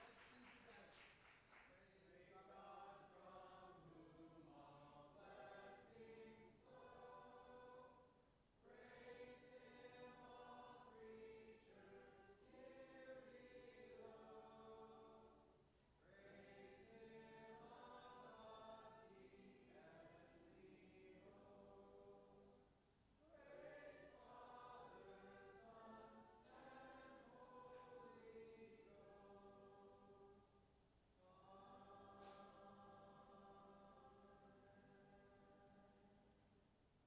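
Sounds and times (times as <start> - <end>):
congregation singing a hymn: 0.0 - 36.4.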